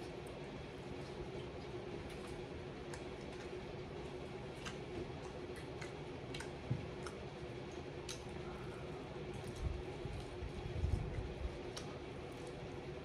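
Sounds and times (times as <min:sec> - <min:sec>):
chewing fried chicken: 0:00.0 - 0:13.0.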